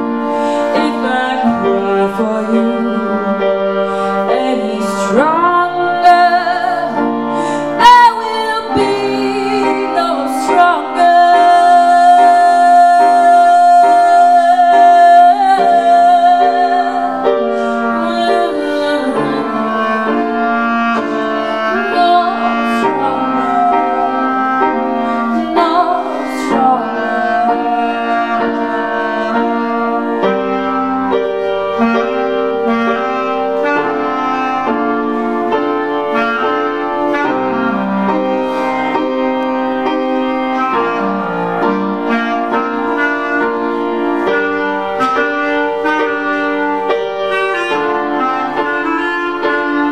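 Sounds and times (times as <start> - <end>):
clarinet melody: 0.0 - 49.9
upright piano chords: 0.0 - 49.9.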